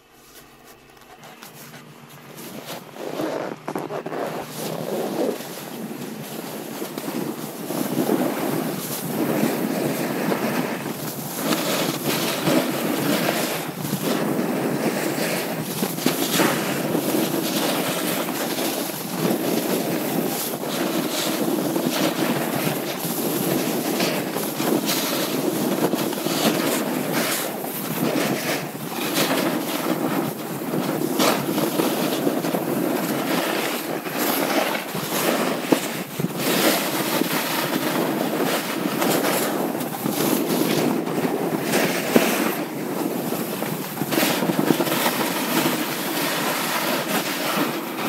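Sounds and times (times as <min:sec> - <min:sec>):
ski edges scraping snow: 0:00.0 - 0:48.0
wind buffeting microphone: 0:01.0 - 0:48.0.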